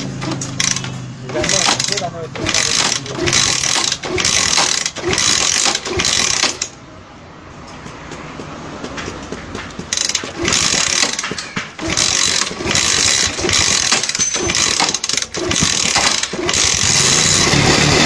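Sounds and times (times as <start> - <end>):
kick-starter ratchet clicking: 0.0 - 6.8, 9.6 - 18.0
motorcycle engine turning over: 0.0 - 6.8, 9.8 - 18.0.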